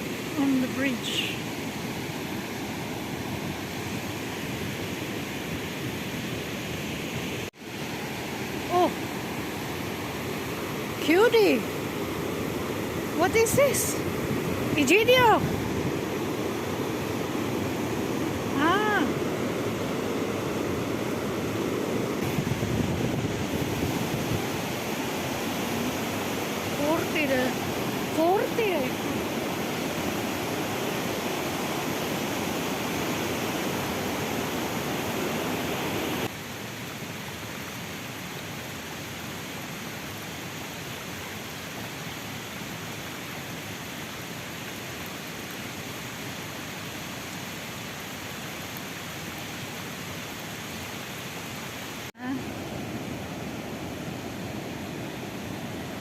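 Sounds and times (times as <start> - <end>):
rushing mountain water: 0.0 - 56.0.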